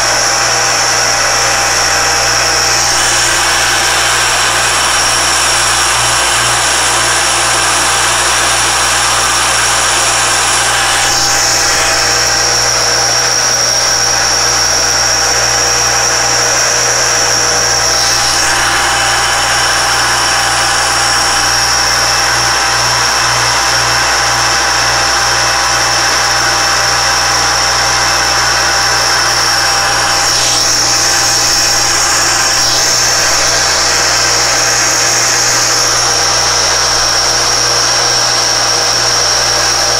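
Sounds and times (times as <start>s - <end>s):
engraving machine spindle whine: 0.0s - 39.9s
steady mechanical hum: 0.0s - 39.9s.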